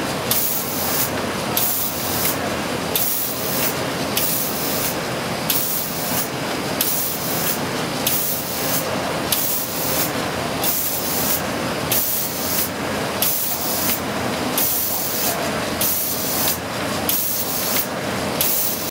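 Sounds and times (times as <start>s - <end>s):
laminating machine hissing: 0.0s - 18.9s.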